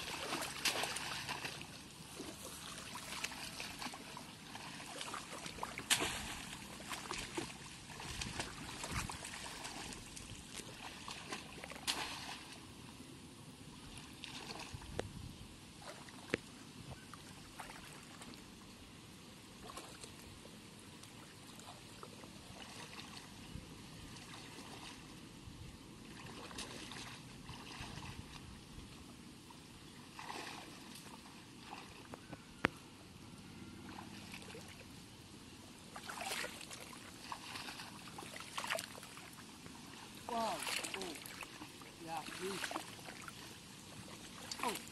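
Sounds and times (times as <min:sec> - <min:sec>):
shallow water splashing and sloshing: 0:00.0 - 0:12.8, 0:13.8 - 0:15.1, 0:15.8 - 0:16.5, 0:17.2 - 0:18.5, 0:19.6 - 0:20.3, 0:21.0 - 0:25.2, 0:26.0 - 0:32.2, 0:33.8 - 0:34.9, 0:35.8 - 0:44.9.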